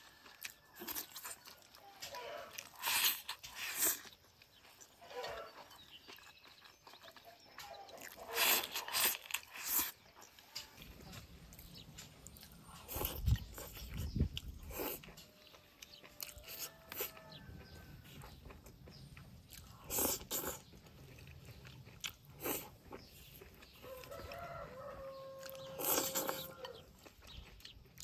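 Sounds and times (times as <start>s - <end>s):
crunching and chewing: 0.0s - 28.0s.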